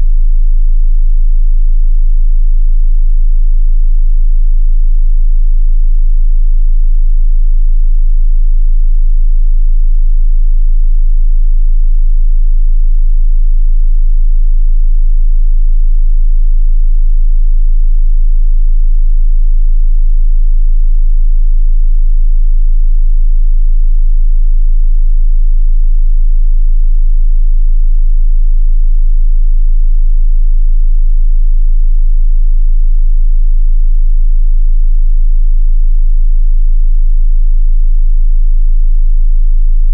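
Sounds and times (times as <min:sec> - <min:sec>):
deep bass sine test tone: 0:00.0 - 0:39.9.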